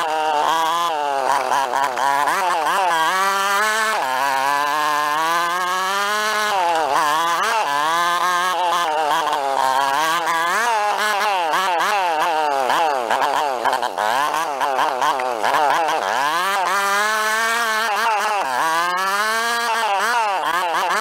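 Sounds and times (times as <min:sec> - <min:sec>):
small motorbike engine revving: 0:00.0 - 0:21.0.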